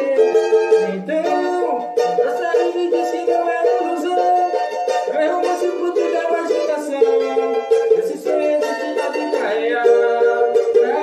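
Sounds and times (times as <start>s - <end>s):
small guitar picked with plectrum: 0.0s - 11.0s.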